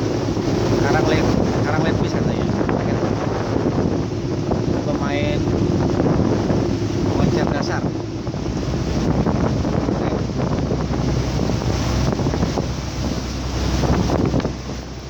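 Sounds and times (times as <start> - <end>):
boat engine humming: 0.0 - 15.0
water rushing past hull: 0.0 - 15.0
wind buffeting microphone: 0.0 - 15.0.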